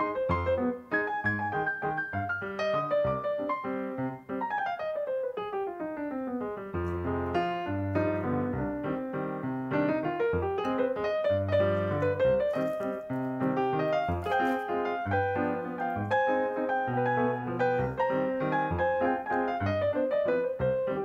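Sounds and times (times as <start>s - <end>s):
background piano music: 0.0s - 21.0s.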